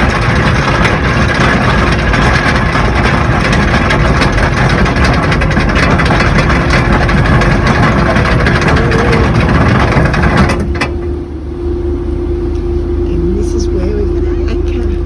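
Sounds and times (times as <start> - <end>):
steady hum: 0.0 - 15.0
vehicle engine rumble: 0.0 - 15.0.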